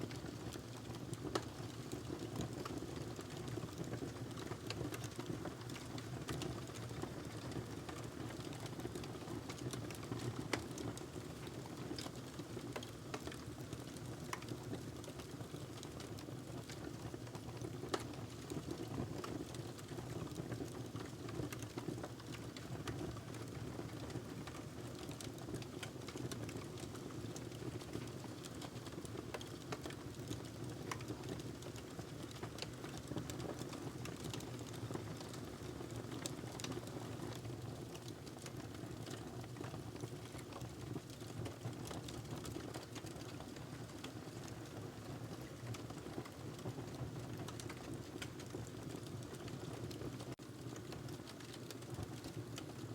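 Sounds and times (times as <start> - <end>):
wood fire crackling: 0.1 - 52.9.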